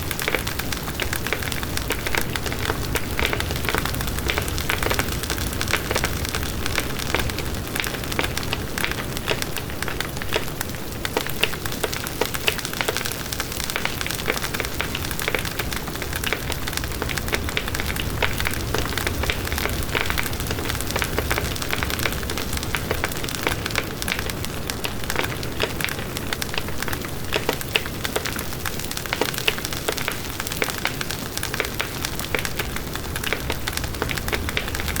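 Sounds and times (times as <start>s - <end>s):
burning wood crackling and popping: 0.0s - 35.0s.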